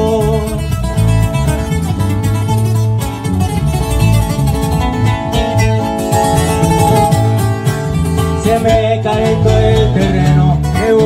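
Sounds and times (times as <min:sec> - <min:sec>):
low bass line: 0:00.0 - 0:11.0
picked acoustic guitar melody: 0:00.0 - 0:11.0
rhythm guitar: 0:00.0 - 0:11.0.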